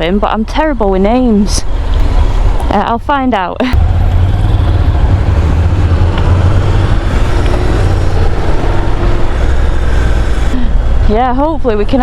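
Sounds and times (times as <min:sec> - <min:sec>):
motorcycle engine running: 0:00.0 - 0:12.0
wind buffeting microphone: 0:00.7 - 0:12.0.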